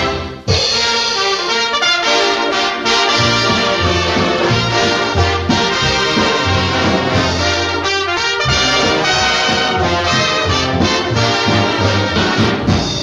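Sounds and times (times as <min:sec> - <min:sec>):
orchestral brass music: 0:00.0 - 0:13.0.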